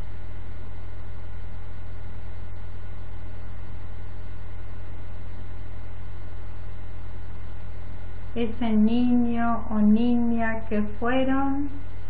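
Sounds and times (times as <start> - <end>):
low drone with hiss: 0.0 - 12.0.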